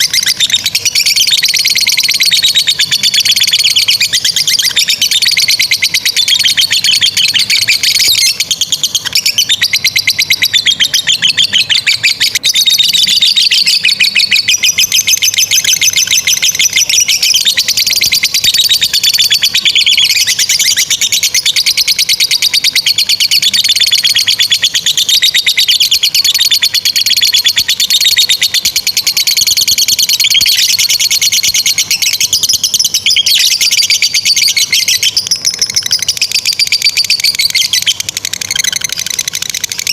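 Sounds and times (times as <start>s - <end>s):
lovebirds trilling: 0.0s - 39.9s.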